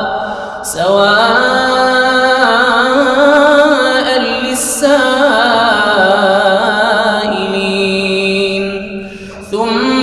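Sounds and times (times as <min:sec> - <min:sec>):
man chanting melodic recitation: 0:00.7 - 0:10.0.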